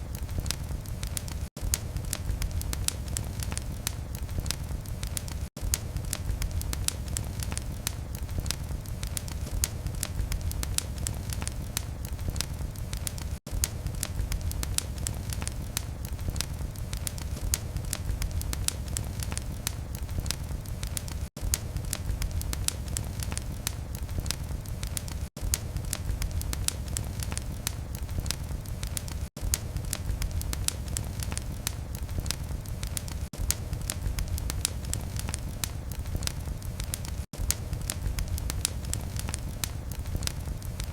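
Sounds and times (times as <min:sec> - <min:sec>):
fire crackling and popping: 0:00.0 - 0:40.9
fire low rumble: 0:00.0 - 0:40.9.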